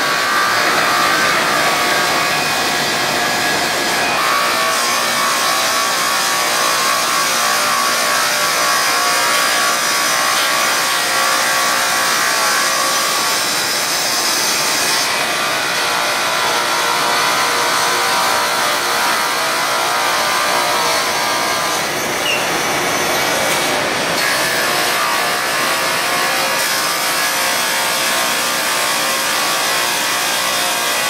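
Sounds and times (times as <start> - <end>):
grinding sanding machines: 0.0 - 31.0.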